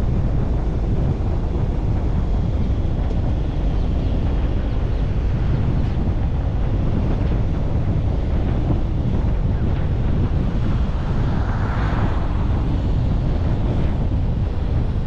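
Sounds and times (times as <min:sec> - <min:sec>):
low road noise rumble: 0:00.0 - 0:15.0
wind buffeting microphone: 0:00.0 - 0:15.0.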